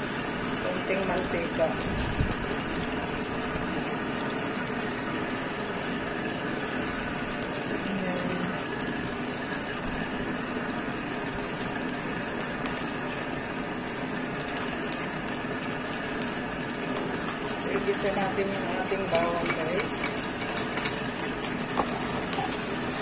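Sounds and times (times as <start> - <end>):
oil sizzling in a wok: 0.0 - 23.0.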